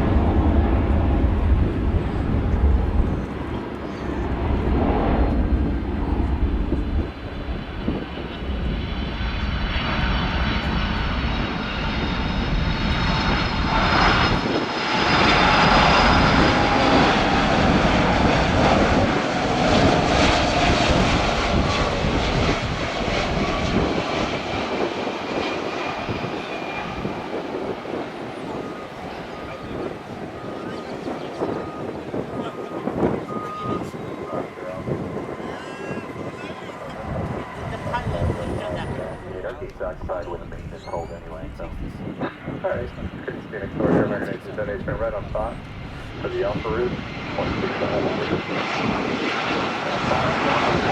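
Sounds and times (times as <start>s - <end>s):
jet airliner engines passing: 0.0s - 50.9s.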